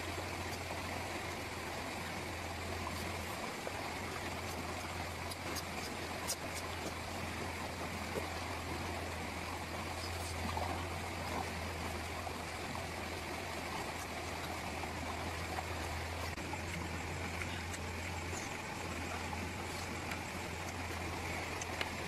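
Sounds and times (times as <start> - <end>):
constant low hum: 0.0 - 22.0
stream rushing: 0.0 - 22.0.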